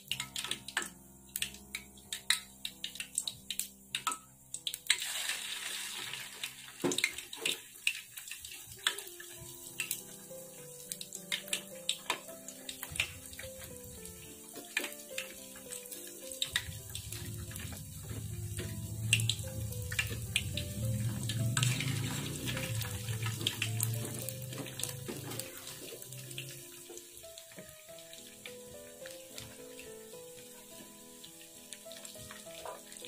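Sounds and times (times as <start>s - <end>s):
food deep-frying in oil: 0.0s - 33.0s.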